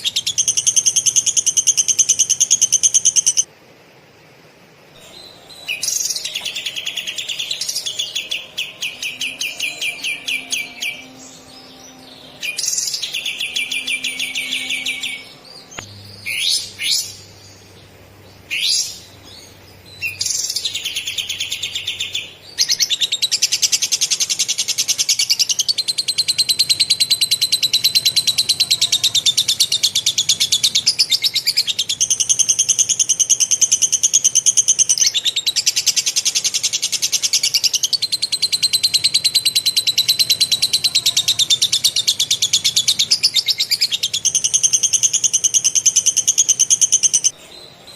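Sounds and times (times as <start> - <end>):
bird trilling song: 0.0 - 3.5, 5.0 - 47.9
sharp bird chirps: 5.0 - 17.7, 18.4 - 47.9.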